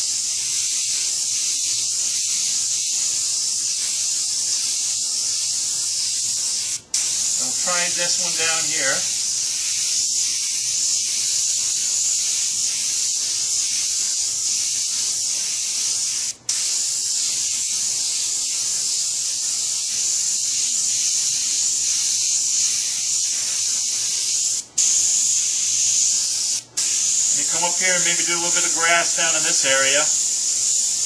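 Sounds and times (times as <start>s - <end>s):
airbrush hissing: 0.0s - 31.0s.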